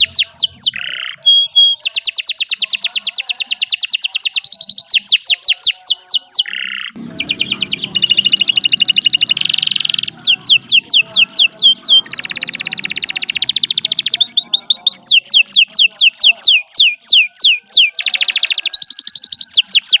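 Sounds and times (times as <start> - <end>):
canary singing: 0.0 - 20.0
fast rattling trills: 0.0 - 20.0.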